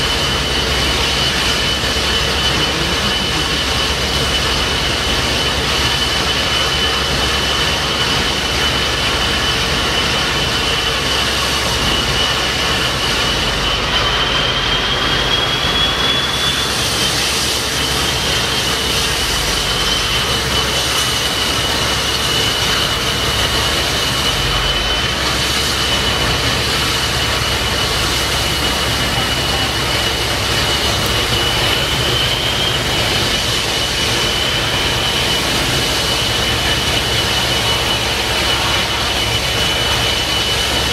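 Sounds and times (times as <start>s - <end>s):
gas turbine whine: 0.0s - 40.9s
rushing water from waterjets: 0.0s - 40.9s.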